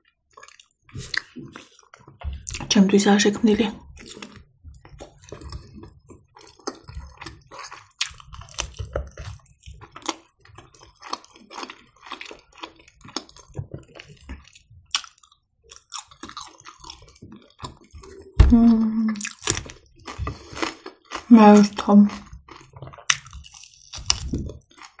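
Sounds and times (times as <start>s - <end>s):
person chewing food: 0.0s - 2.7s, 3.8s - 25.0s.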